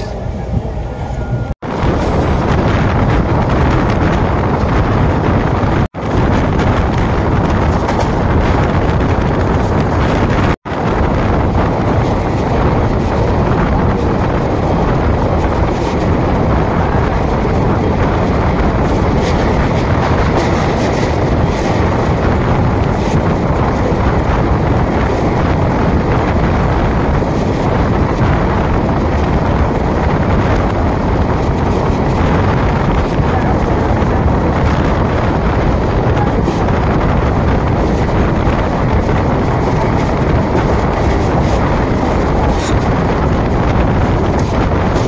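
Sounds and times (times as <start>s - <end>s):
train wheels on rails: 0.0s - 45.0s
wind buffeting microphone: 0.0s - 45.0s.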